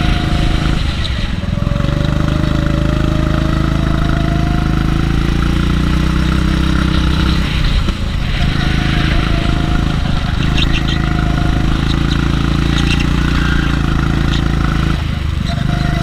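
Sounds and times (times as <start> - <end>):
go-kart engine running hard: 0.0 - 16.0.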